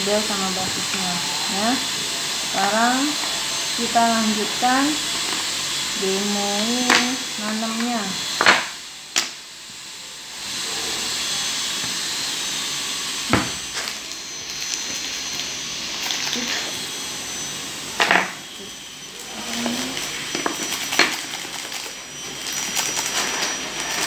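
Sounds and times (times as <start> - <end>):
air blower rushing: 0.0 - 9.5, 10.3 - 24.0.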